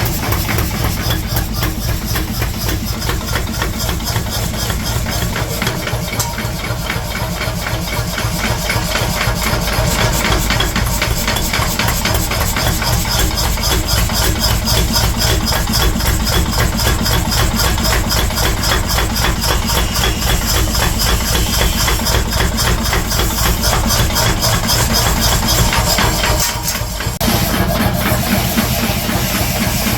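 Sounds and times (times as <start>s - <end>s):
metalworking machine striking: 0.0s - 29.9s.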